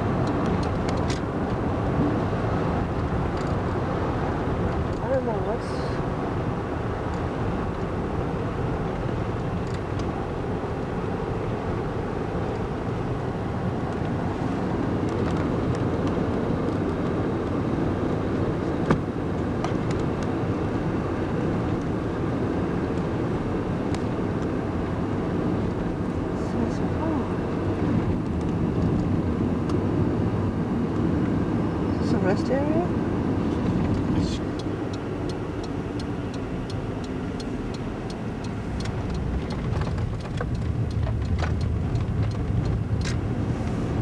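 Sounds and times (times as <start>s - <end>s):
car road and engine noise: 0.0s - 44.0s.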